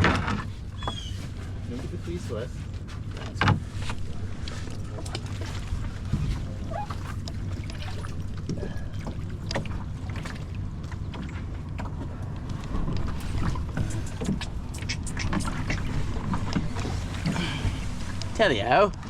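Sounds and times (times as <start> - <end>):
paddles splashing and knocking: 0.0 - 19.0.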